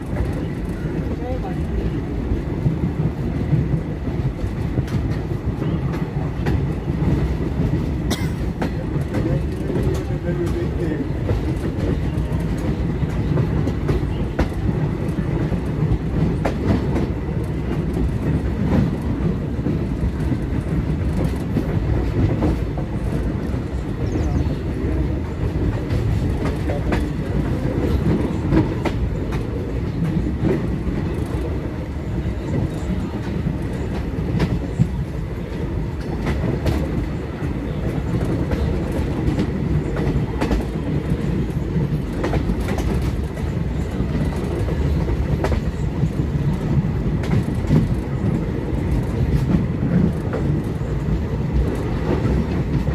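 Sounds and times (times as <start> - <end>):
train rumbling along track: 0.0 - 52.9.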